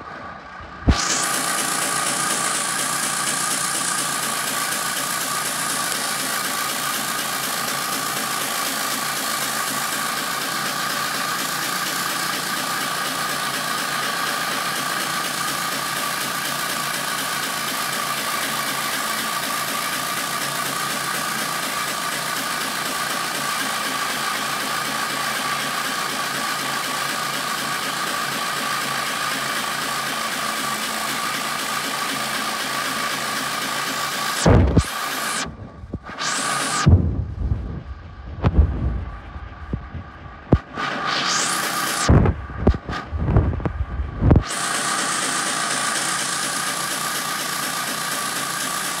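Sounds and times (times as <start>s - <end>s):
tractor engine running: 0.0s - 49.0s.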